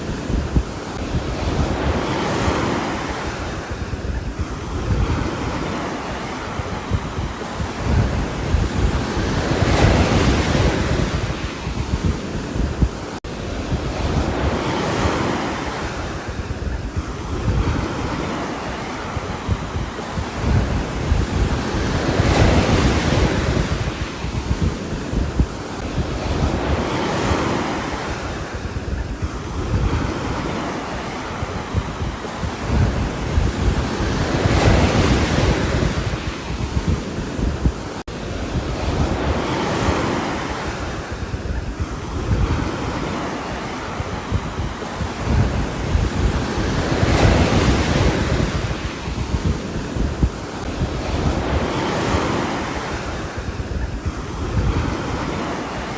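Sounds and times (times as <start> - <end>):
rain and wind on a roof: 0.0 - 55.9.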